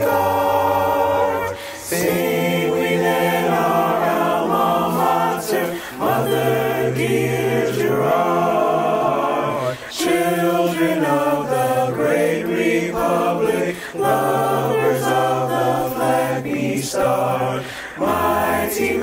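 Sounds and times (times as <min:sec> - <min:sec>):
choir singing a cappella: 0:00.0 - 0:19.0.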